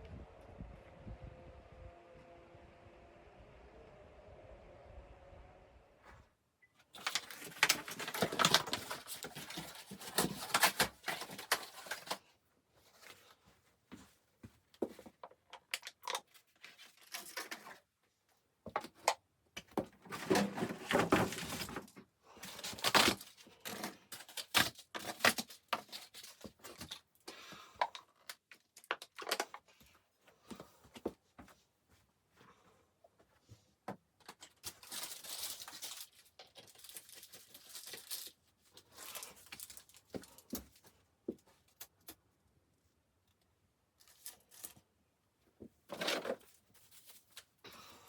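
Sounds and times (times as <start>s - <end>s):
rustling and scraping of handled objects: 6.0s - 42.3s, 43.9s - 48.0s.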